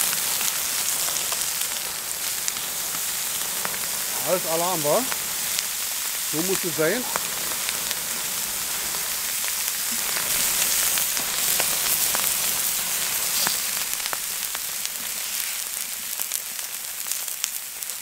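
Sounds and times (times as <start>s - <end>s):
meat sizzling on griddle: 0.0s - 18.0s.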